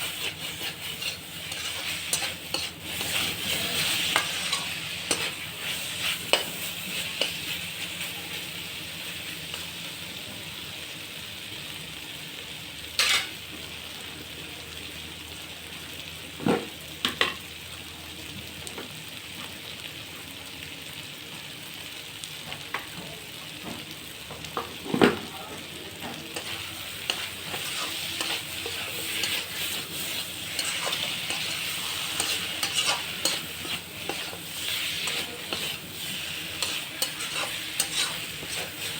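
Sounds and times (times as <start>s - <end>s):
curry sizzling in oil: 0.0s - 38.9s.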